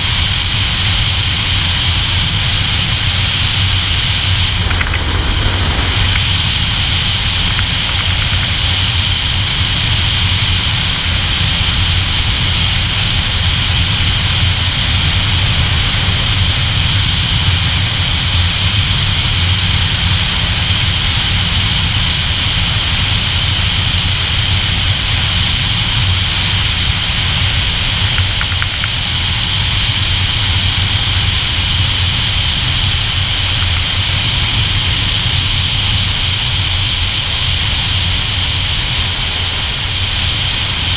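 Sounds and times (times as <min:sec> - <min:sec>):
road noise: 0:00.0 - 0:40.9
wind noise: 0:00.0 - 0:40.9
motorcycle engine humming: 0:00.5 - 0:35.1.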